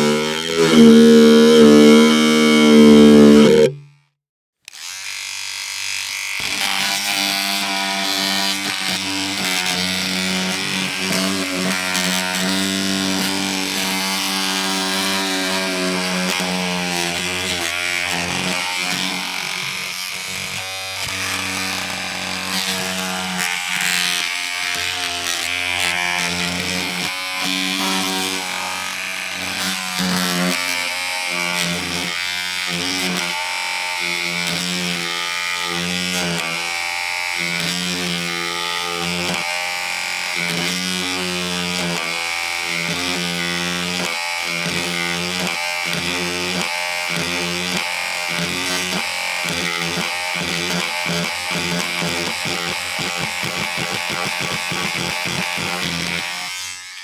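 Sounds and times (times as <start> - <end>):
small electric motor buzzing: 0.0 - 4.0, 4.6 - 57.0.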